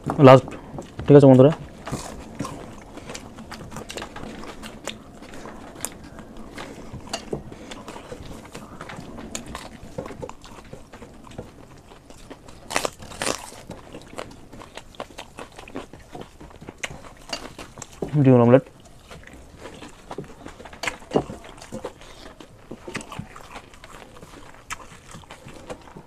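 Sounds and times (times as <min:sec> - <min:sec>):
chewing crisp snacks: 0:00.0 - 0:26.0.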